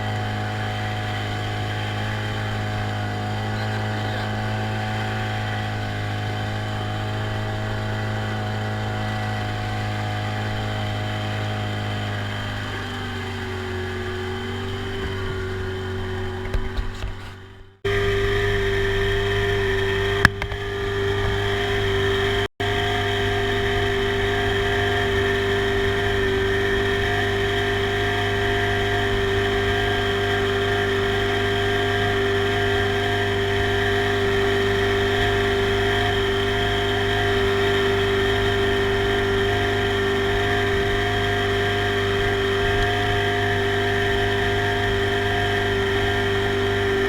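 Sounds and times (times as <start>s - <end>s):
small boat engine droning: 0.0s - 47.0s.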